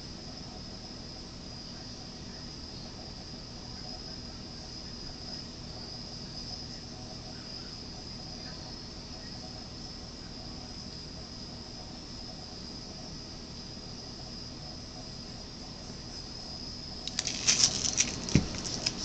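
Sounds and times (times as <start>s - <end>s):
crickets trilling: 0.0s - 19.0s
low steady hum: 0.0s - 19.0s.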